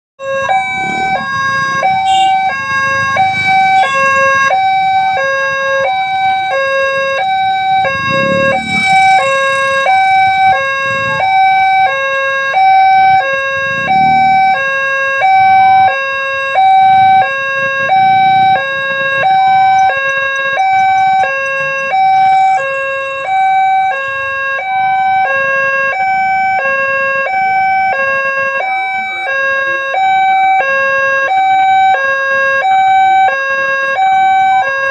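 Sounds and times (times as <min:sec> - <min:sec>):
level crossing hi-lo siren: 0:00.2 - 0:34.9.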